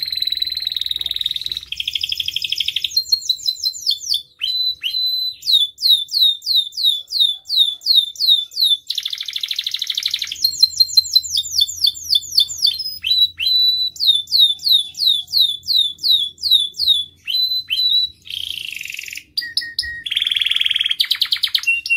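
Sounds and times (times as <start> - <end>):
canary singing: 0.0 - 21.9.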